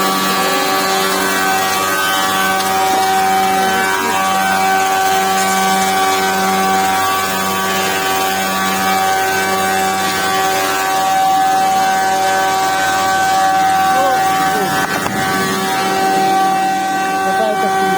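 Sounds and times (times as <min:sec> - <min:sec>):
planer machine whining: 0:00.0 - 0:17.9.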